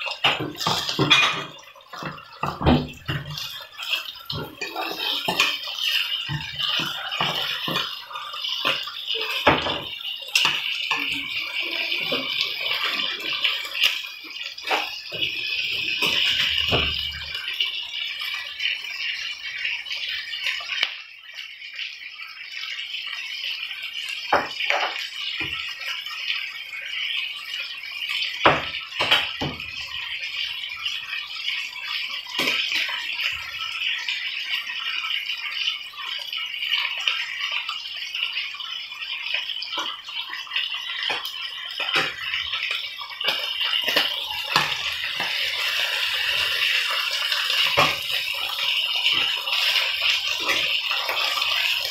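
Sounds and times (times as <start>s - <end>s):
steak sizzling in a frying pan: 0.0s - 51.9s.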